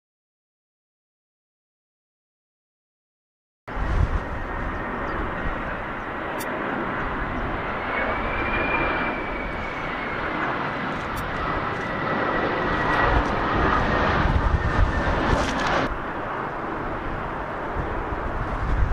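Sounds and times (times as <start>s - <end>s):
jet airliner engine rushing: 3.7s - 18.9s.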